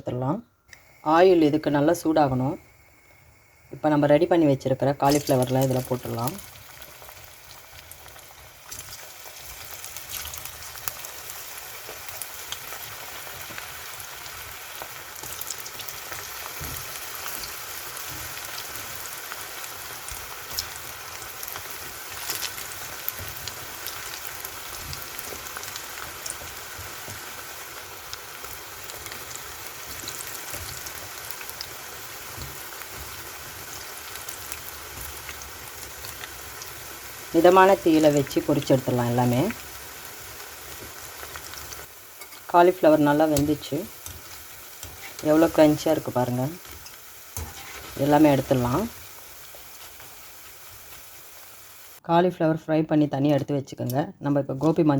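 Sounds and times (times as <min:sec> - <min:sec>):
battered food deep-frying in oil: 0:00.8 - 0:52.0.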